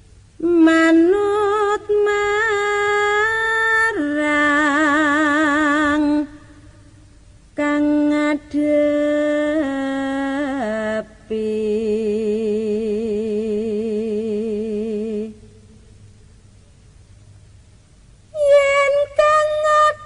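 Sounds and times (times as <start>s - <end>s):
solo voice singing unaccompanied: 0.4s - 16.0s, 18.3s - 20.0s.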